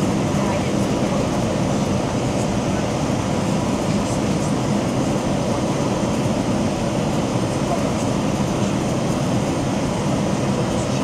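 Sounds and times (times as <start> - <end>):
airliner cabin engine rush: 0.0 - 11.0.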